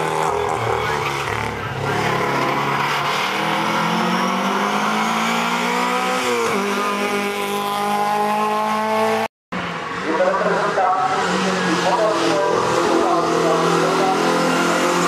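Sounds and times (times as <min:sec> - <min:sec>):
race car engine accelerating: 0:00.0 - 0:09.3, 0:09.9 - 0:15.0.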